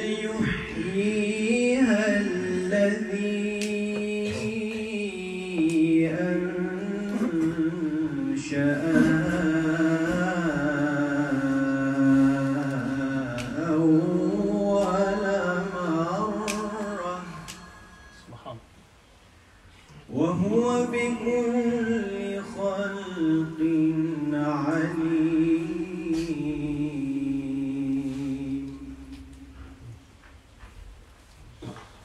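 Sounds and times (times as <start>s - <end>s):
man reciting melodically: 0.0s - 18.8s, 19.9s - 30.1s.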